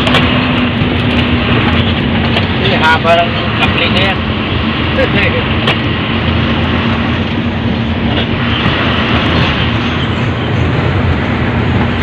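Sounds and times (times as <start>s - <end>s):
constant low hum: 0.0s - 12.0s
truck engine and road rumble: 0.0s - 12.0s.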